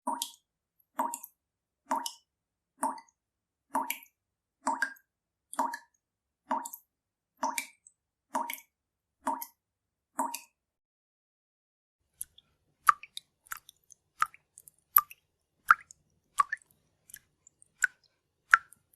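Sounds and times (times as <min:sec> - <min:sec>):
water dripping from a tap: 0:00.0 - 0:09.6, 0:12.1 - 0:18.9.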